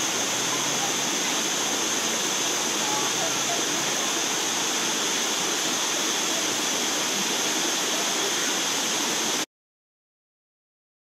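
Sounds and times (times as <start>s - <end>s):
water rushing over rocks: 0.0s - 9.5s.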